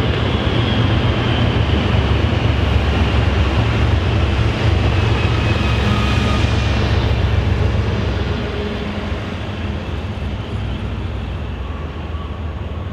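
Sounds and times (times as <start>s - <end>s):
passenger train rumbling: 0.0s - 12.9s.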